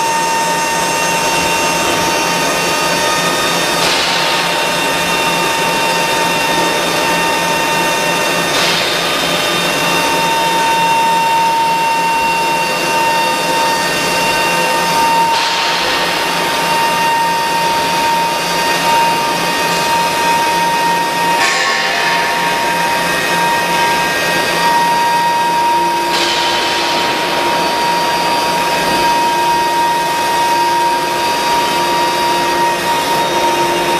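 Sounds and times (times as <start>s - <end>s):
high machine whine: 0.0s - 33.9s.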